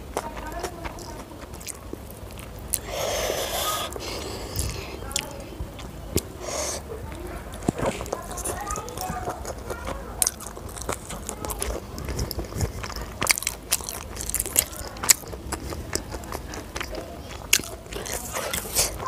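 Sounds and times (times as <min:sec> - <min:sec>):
person chewing and crunching: 0:00.0 - 0:19.0.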